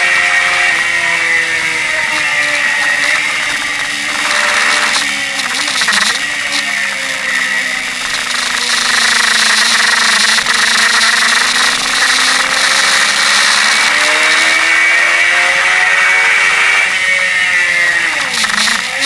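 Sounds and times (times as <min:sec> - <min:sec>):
motorcycle engine running hard: 0:00.0 - 0:19.0.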